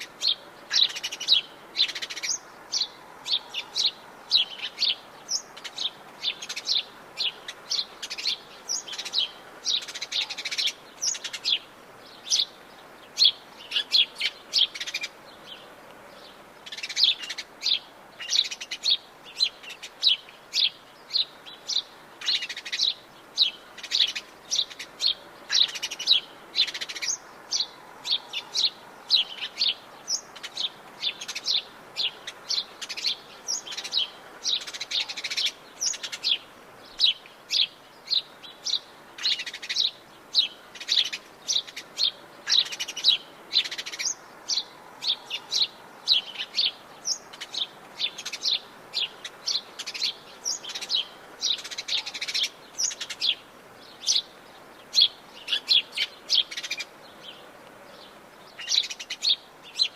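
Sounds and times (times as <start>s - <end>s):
birds chirping and trilling: 0.0s - 59.9s
faint steady hiss: 0.0s - 59.9s.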